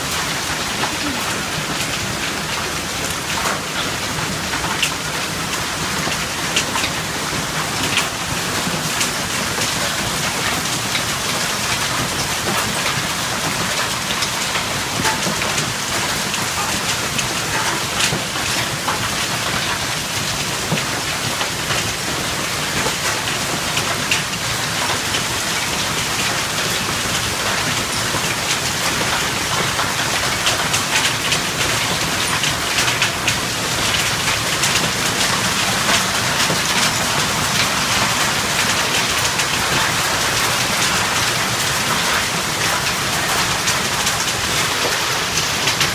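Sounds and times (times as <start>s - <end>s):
hailstones ticking on hard surfaces: 0.0s - 45.9s
heavy hail pelting the ground: 0.0s - 45.9s.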